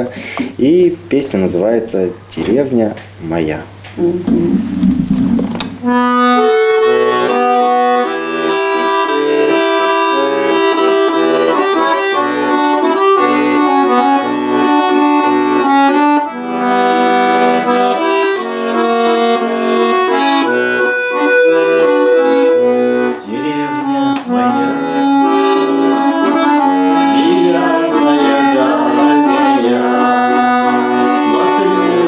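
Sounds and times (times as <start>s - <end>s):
accordion melody over held chords: 4.0s - 32.0s.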